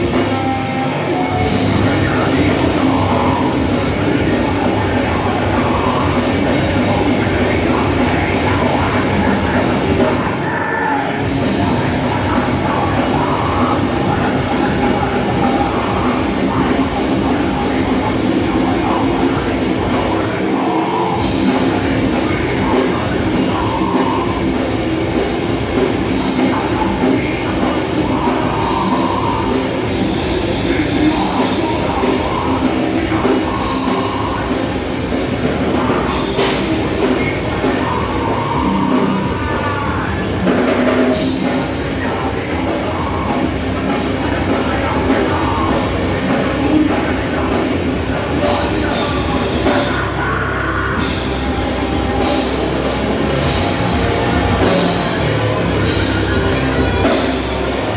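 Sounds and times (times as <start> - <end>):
drum kit: 0.0 - 10.6, 11.2 - 57.9
distorted guitar: 0.0 - 57.9.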